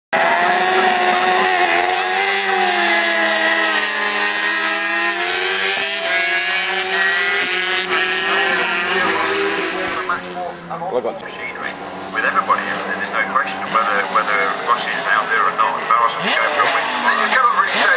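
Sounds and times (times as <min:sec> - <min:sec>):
racing motorcycle engines: 0:00.2 - 0:17.9.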